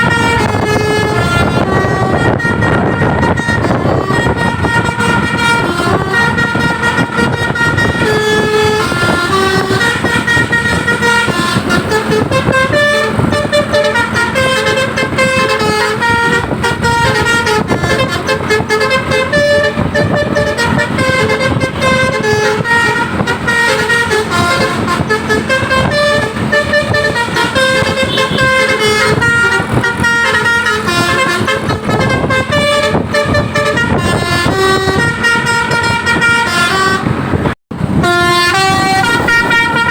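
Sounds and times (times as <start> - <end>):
multi-tone bus horn melody: 0.0 - 39.9.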